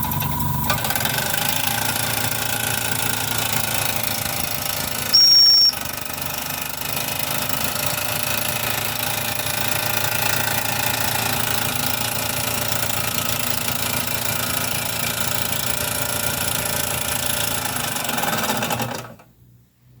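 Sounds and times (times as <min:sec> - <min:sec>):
steam engine chuffing and clatter: 0:00.0 - 0:05.1, 0:05.9 - 0:19.1.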